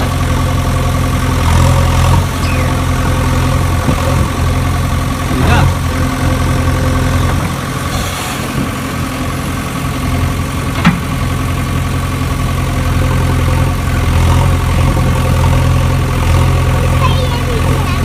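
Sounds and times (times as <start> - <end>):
engine idling hum: 0.0 - 18.0.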